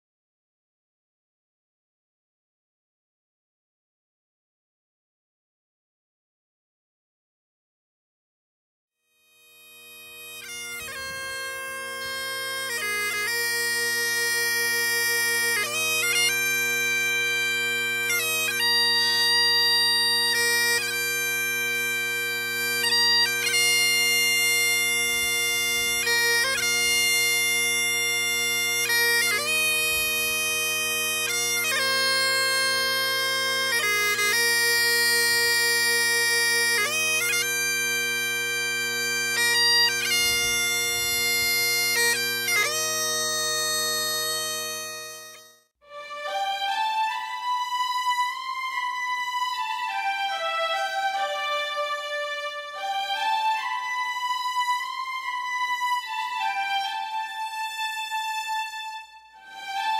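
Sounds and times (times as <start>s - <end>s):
bagpipes playing a tune: 9.2s - 59.9s.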